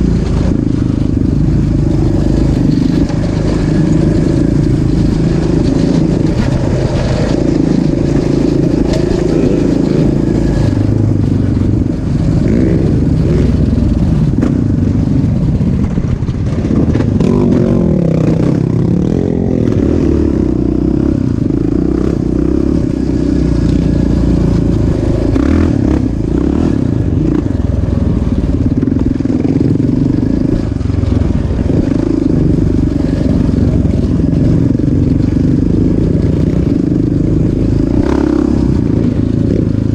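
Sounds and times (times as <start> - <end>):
off-road bike engine revving: 0.0 - 39.9.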